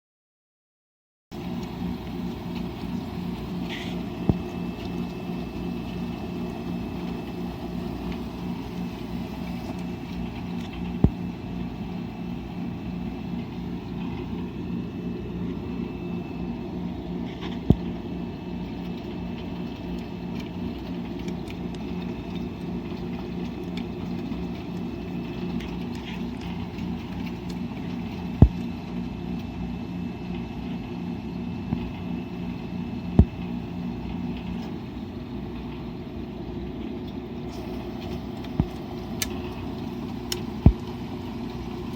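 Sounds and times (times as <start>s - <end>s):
washing machine humming: 1.3s - 41.9s.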